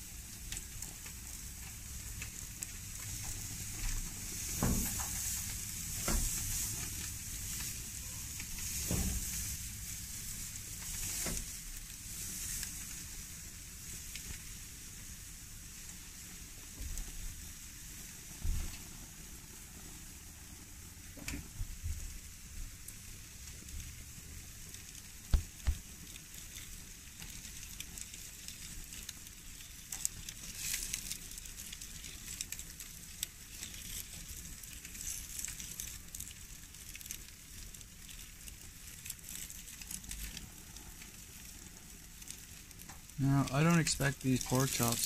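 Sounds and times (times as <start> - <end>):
meat sizzling on a grill: 0.0 - 45.0.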